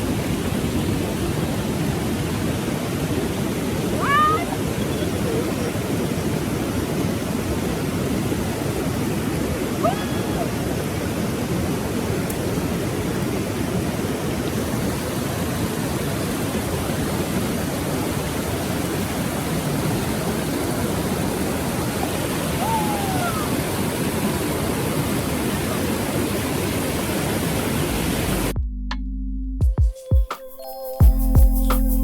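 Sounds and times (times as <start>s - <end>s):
water rushing over rocks: 0.0s - 28.6s.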